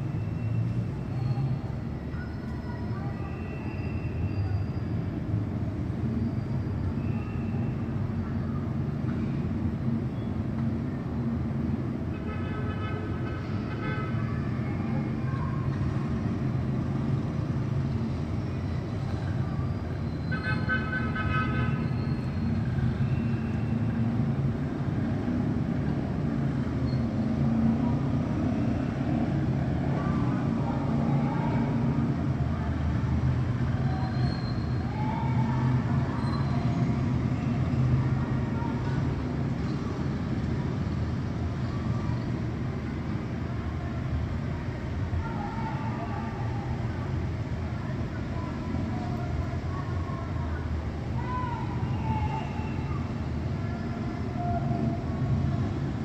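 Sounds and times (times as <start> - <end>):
distant city traffic rumble: 0.0 - 56.0.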